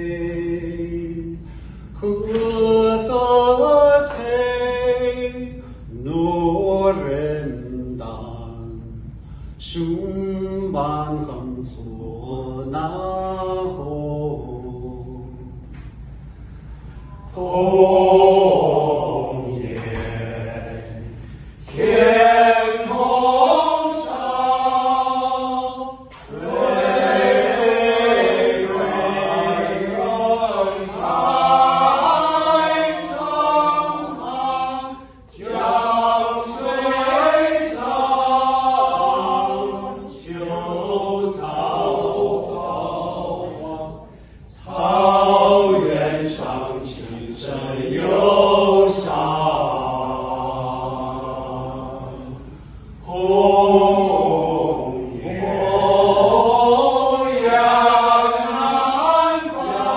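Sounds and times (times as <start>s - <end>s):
male vocal ensemble singing: 0.0s - 16.1s, 16.8s - 59.9s.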